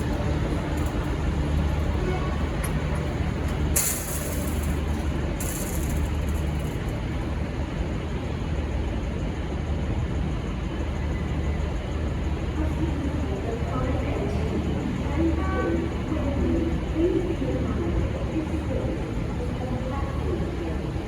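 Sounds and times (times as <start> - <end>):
diesel locomotive droning: 0.0 - 21.0.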